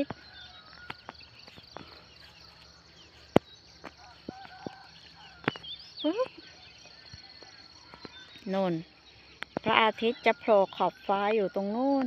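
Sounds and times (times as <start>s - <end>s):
birds chirping: 0.0s - 12.0s
high insect drone: 0.0s - 12.0s.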